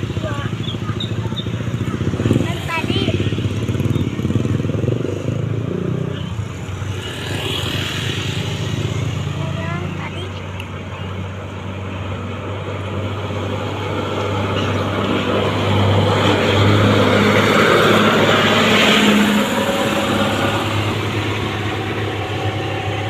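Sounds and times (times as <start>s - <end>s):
bus engine passing: 0.0s - 23.0s.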